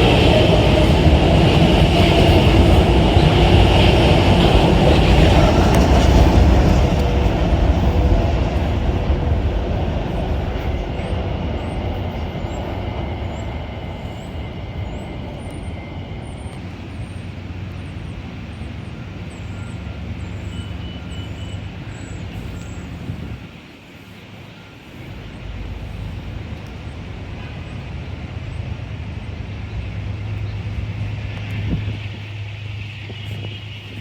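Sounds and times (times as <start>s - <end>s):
train rumbling past: 0.0s - 34.0s.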